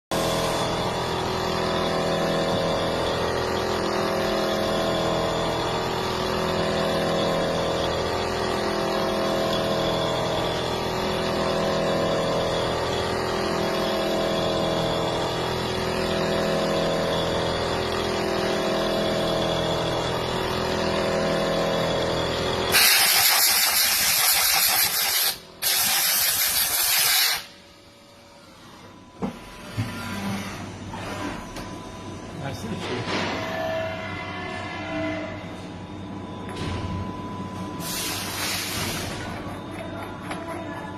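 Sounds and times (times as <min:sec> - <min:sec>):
machine humming in shifting tones: 0:00.1 - 0:40.9.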